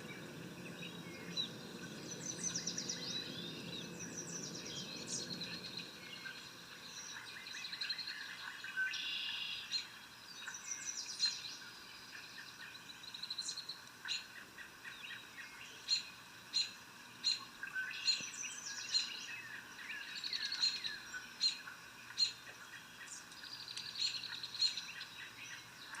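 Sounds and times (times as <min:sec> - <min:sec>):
birds calling and singing: 0:00.0 - 0:26.0.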